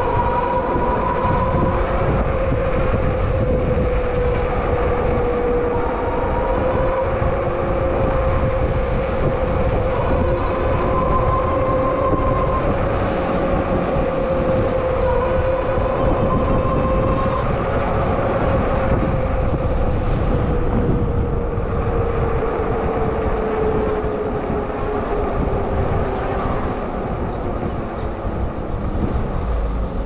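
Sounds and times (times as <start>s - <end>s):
electric bike whine: 0.0s - 30.0s
wind and road noise: 0.0s - 30.0s.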